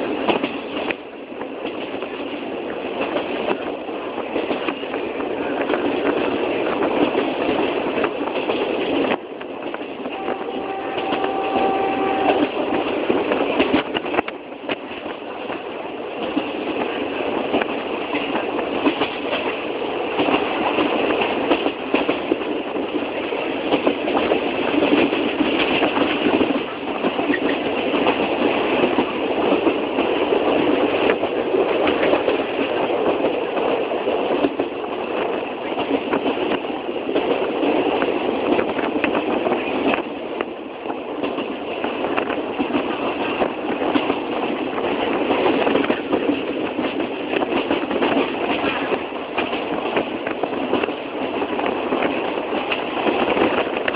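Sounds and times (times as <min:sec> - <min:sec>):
train wheels rattling and clattering: 0:00.0 - 0:53.9.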